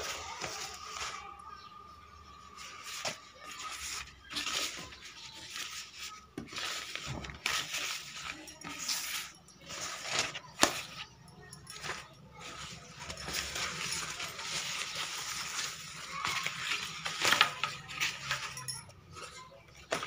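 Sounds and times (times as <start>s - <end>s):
bag rustling and scraping: 2.7s - 20.0s.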